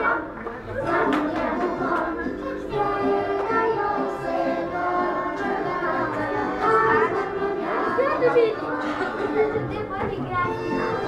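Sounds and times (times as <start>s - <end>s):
child singing folk song: 0.0s - 10.9s
instrumental backing: 0.0s - 11.0s.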